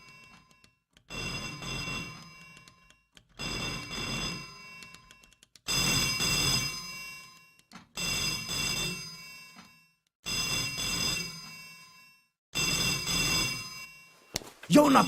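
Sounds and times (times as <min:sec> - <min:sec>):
telephone bell ringing: 0:00.0 - 0:15.0.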